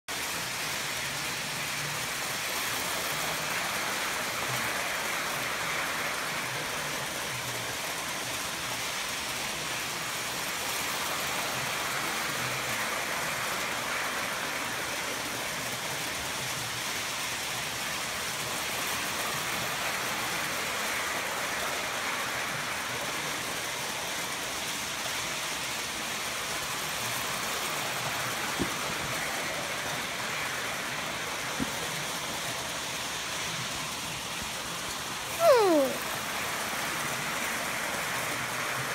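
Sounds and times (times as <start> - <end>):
toy trains whirring and rattling: 0.1 - 38.9.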